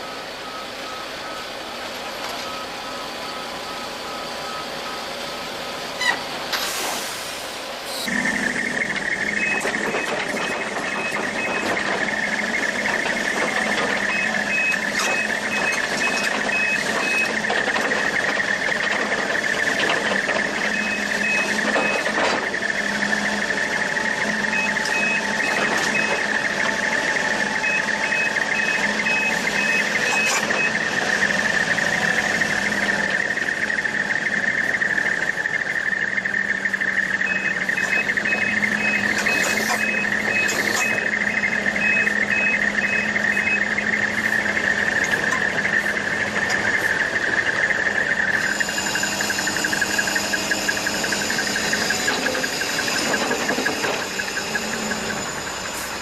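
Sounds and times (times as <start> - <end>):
rapid reversing beeps: 0.0 - 6.2, 7.2 - 56.0
machine whine and hum: 0.0 - 56.0.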